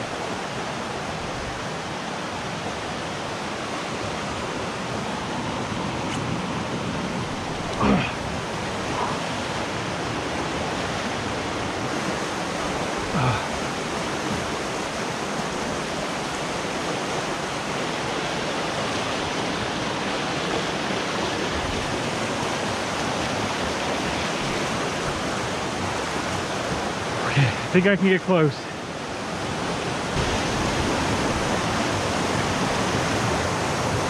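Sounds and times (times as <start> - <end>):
fast river water rushing: 0.0 - 34.0.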